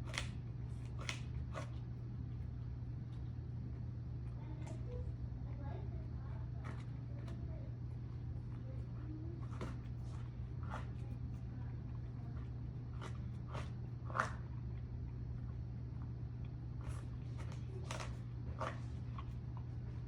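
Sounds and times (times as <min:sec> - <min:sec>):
dog licking rubber mat: 0:00.0 - 0:20.0.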